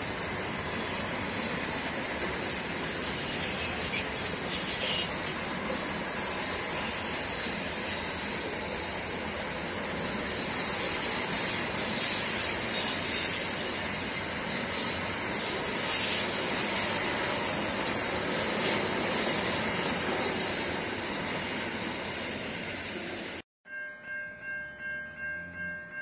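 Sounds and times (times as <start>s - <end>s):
train wheels rumbling on rails: 0.0s - 23.4s.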